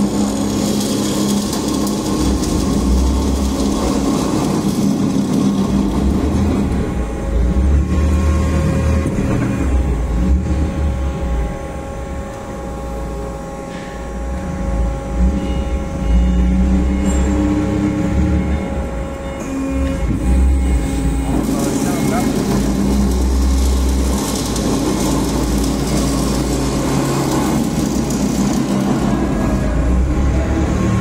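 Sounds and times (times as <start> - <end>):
metal-cutting saw humming and whining: 0.0 - 31.0.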